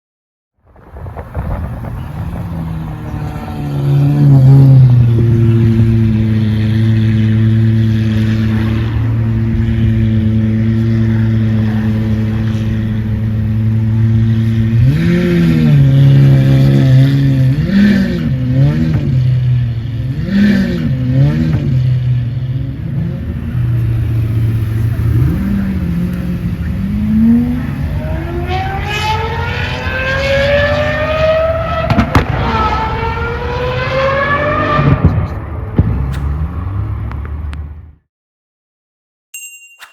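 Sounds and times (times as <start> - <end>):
car engine idling and revving: 1.1 - 38.0.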